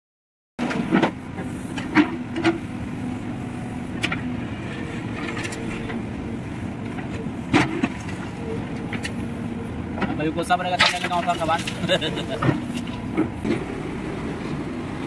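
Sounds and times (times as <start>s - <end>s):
diesel engine running: 0.6s - 15.0s.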